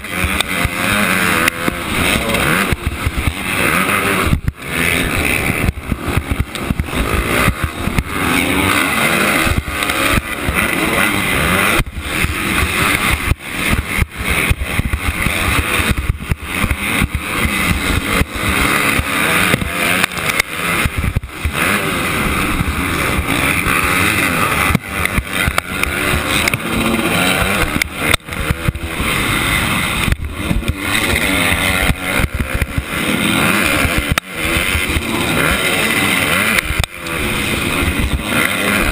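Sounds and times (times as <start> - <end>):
dirt bike engine revving: 0.0 - 38.9
other bikes racing: 0.0 - 38.9.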